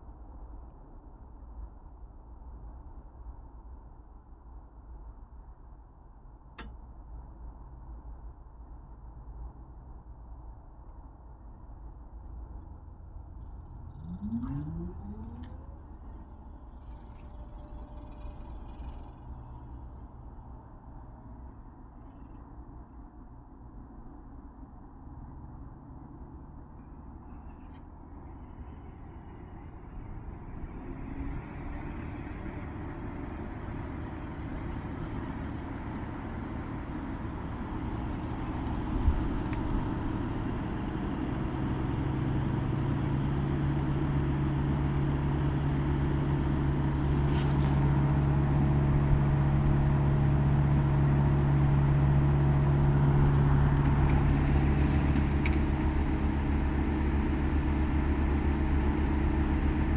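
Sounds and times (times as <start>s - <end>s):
steady low hum: 0.2s - 59.9s.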